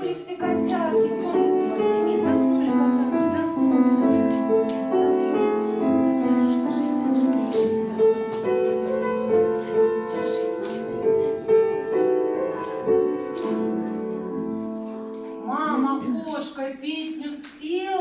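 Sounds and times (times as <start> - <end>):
slow piano melody: 0.4 - 16.2.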